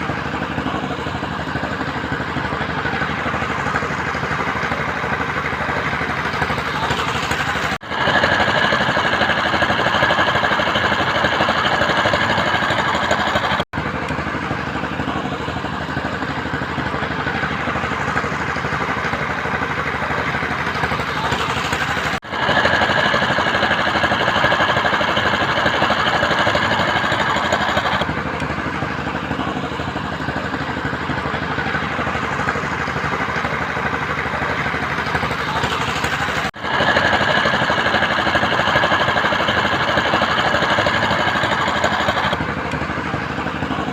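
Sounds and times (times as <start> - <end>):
construction machinery running: 0.0 - 43.9
high-pitched machine whine: 0.0 - 43.9.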